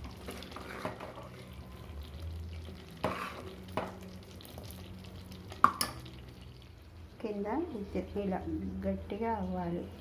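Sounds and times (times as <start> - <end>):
syrup cooking in a pan: 0.0 - 8.2.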